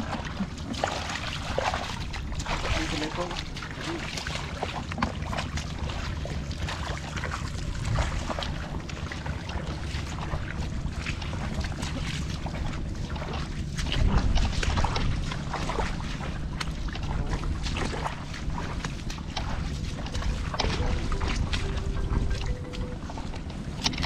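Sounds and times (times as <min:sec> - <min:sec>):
bare feet squelching in mud: 0:00.0 - 0:22.8
wind rumbling on microphone: 0:00.0 - 0:24.0.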